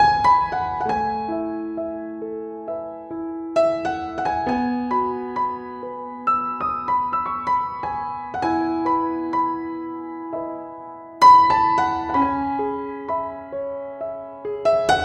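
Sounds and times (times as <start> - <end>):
loud piano chord: 0.0 - 15.0
slow piano melody: 0.0 - 15.0.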